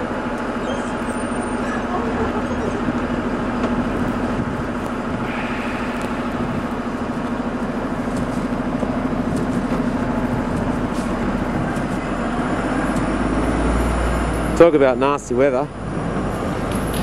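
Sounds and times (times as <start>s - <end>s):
street noise: 0.0s - 17.0s
vehicle engine running: 0.0s - 17.0s.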